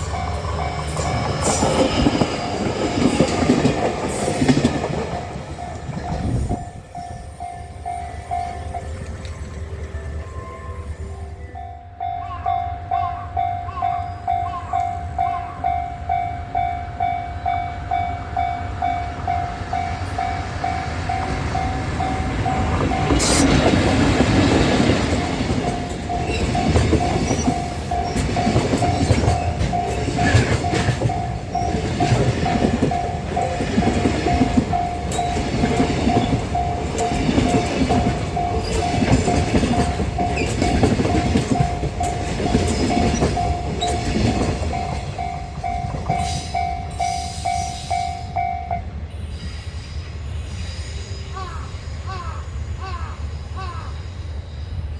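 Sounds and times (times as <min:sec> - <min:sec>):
level-crossing warning bell ringing: 0:00.0 - 0:49.1
train rumble and wheel clatter: 0:00.0 - 0:54.9.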